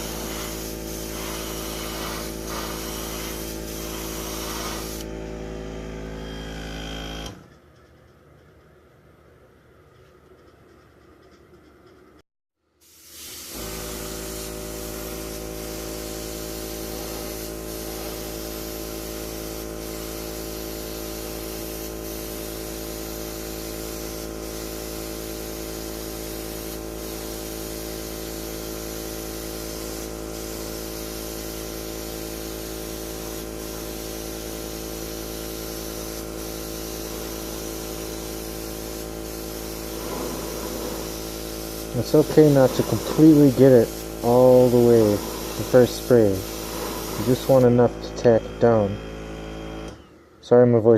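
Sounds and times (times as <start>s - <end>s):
airbrush spraying hiss: 0.0s - 5.1s, 12.8s - 48.8s
air compressor humming: 0.0s - 8.0s, 12.8s - 50.6s.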